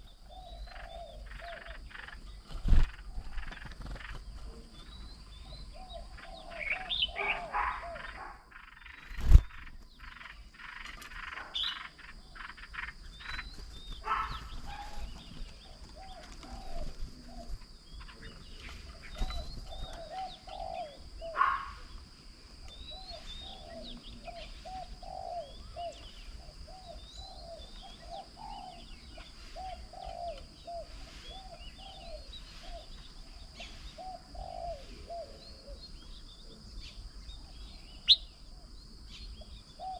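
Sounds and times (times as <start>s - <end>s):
birds calling and chirping: 0.0s - 39.9s
repeated short low bird calls: 0.0s - 39.9s.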